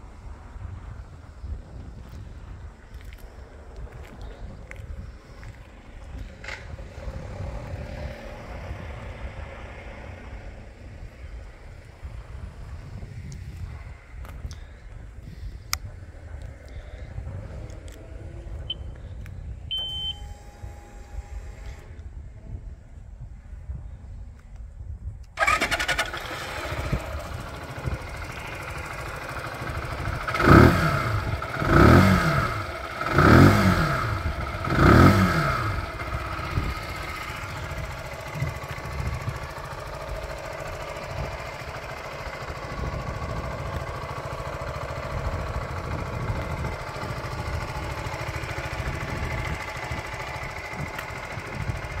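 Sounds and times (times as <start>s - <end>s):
motorcycle engine starting and revving: 1.1s - 22.2s, 25.3s - 52.0s.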